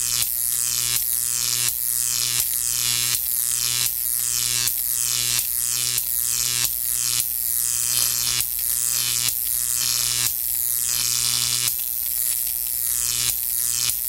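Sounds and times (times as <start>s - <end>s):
electric buzzing pulse: 0.0s - 14.0s.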